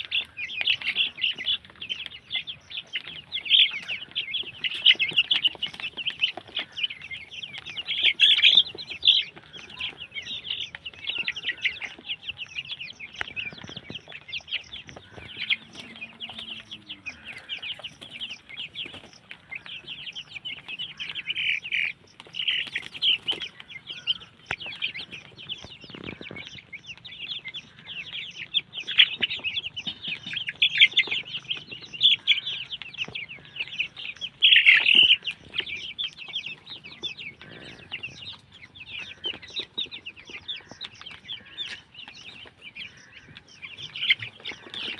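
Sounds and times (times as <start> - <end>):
chickens chirping and clucking: 0.0 - 44.9.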